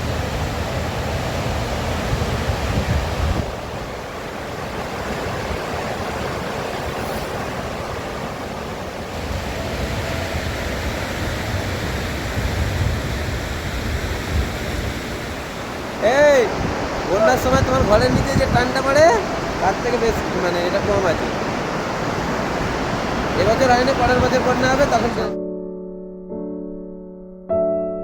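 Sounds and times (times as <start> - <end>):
river water rushing: 0.0 - 25.3
wind buffeting microphone: 0.0 - 25.3.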